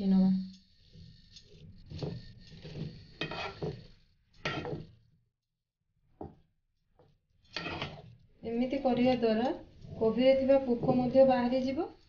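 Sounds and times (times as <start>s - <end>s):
wooden spatula scraping a pan: 0.0s - 5.1s, 6.2s - 12.0s.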